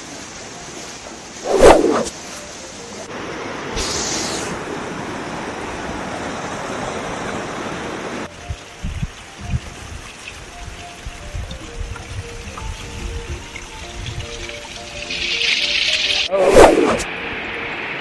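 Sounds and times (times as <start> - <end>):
stream rushing over rocks: 0.0 - 16.3.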